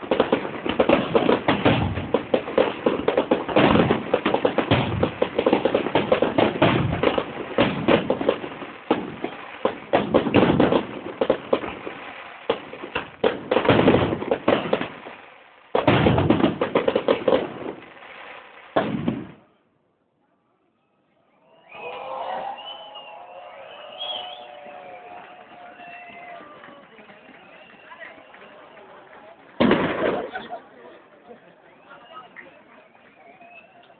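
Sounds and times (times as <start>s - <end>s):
fireworks bangs and crackling: 0.0s - 19.6s, 22.8s - 33.9s.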